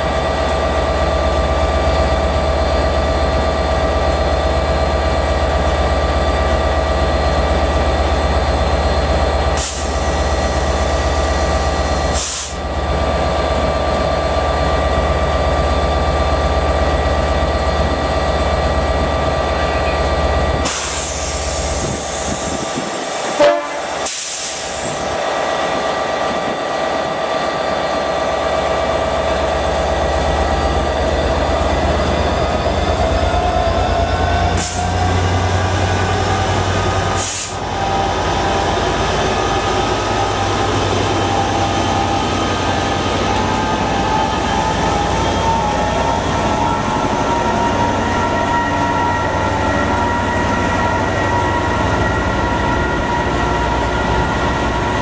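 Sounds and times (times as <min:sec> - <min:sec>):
loud train blast: 0:00.0 - 0:55.0
train humming and whining: 0:00.0 - 0:55.0.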